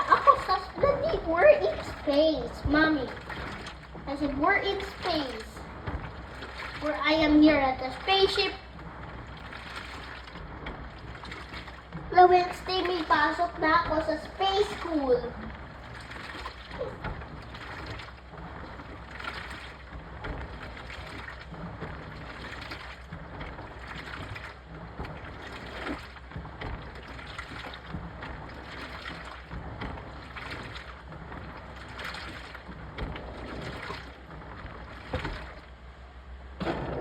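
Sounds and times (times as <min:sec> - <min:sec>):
washing machine water sloshing: 0:00.0 - 0:37.0.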